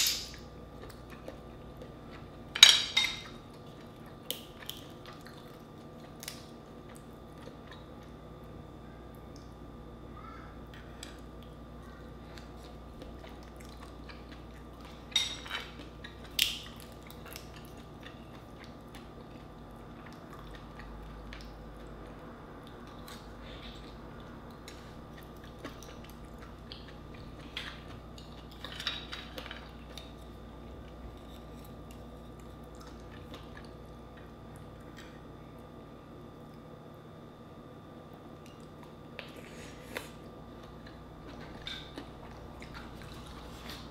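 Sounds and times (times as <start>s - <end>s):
quiet chewing: 0.5s - 2.4s, 3.2s - 8.3s, 10.6s - 35.8s, 38.1s - 43.9s.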